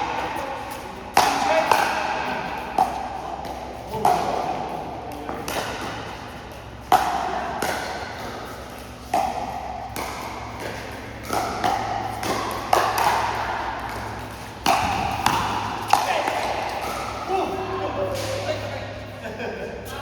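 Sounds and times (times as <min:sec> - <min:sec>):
paddles hitting plastic ball: 0:00.0 - 0:18.6.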